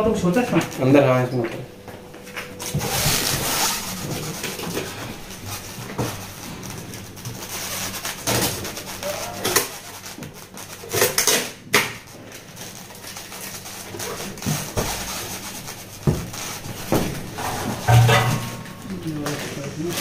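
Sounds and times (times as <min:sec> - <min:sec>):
knocks and rustles of unpacking: 0:00.4 - 0:20.0.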